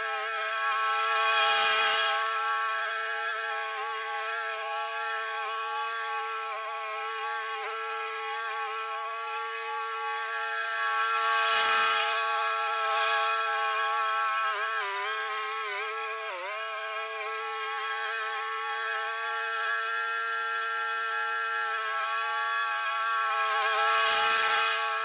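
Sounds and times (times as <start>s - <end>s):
lawn mower engine mowing grass: 0.0s - 25.0s.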